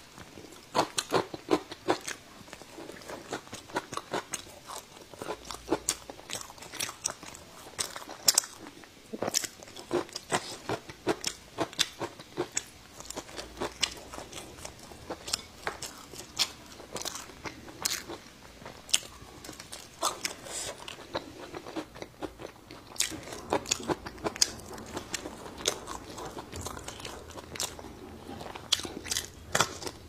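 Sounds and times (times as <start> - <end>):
crunching and chewing pickled ginger: 0.0 - 30.0.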